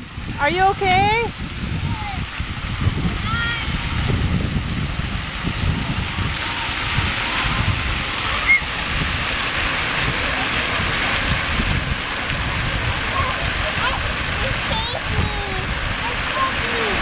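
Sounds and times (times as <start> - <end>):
fountains spraying water: 0.0 - 17.0.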